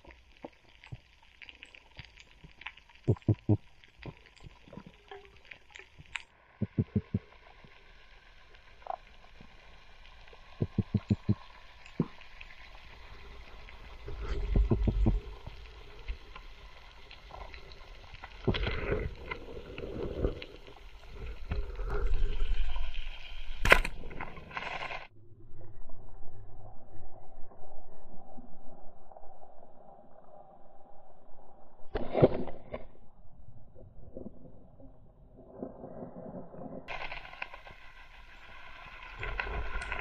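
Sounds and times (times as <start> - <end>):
rushing water underwater: 0.0 - 40.0.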